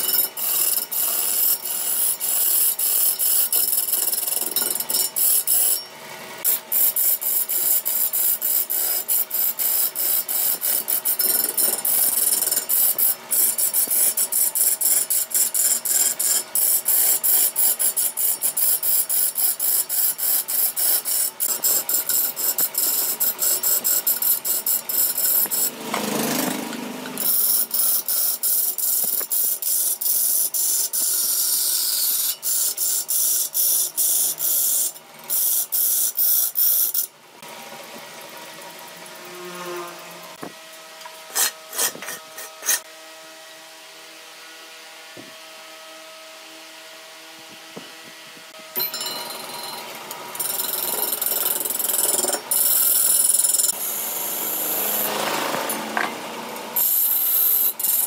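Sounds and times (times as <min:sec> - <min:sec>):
lathe tool scraping wood: 0:00.0 - 0:37.1, 0:41.0 - 0:42.9, 0:49.4 - 0:58.0.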